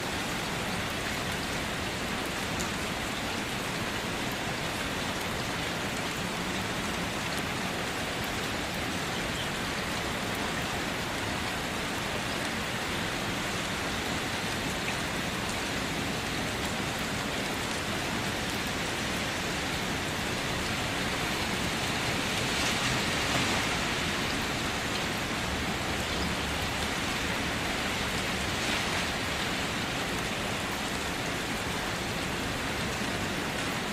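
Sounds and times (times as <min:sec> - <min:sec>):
rain pattering on a surface: 0:00.0 - 0:33.9.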